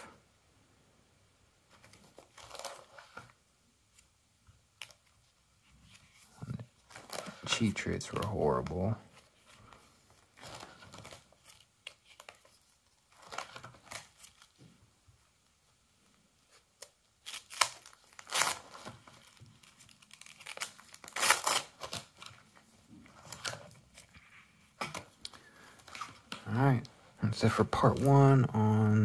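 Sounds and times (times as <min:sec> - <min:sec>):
plastic pages rustling: 0:01.7 - 0:04.1, 0:04.7 - 0:14.7, 0:16.4 - 0:28.4.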